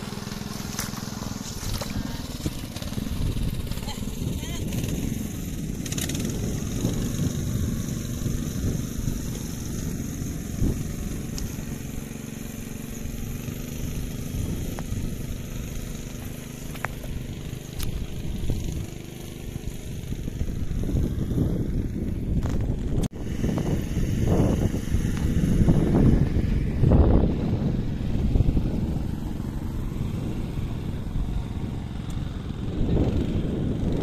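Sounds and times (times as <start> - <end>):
engine running steadily: 0.0 - 34.0
wind buffeting microphone: 0.0 - 34.0.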